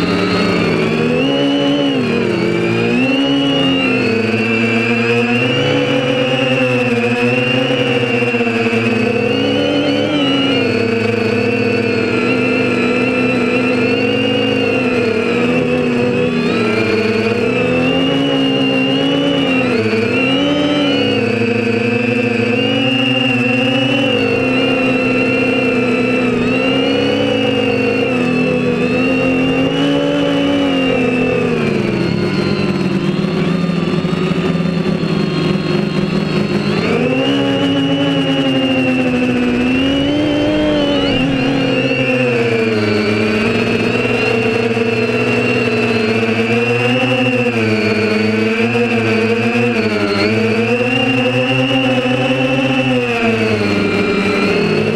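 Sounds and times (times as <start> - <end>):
drone motors whining: 0.0 - 54.9.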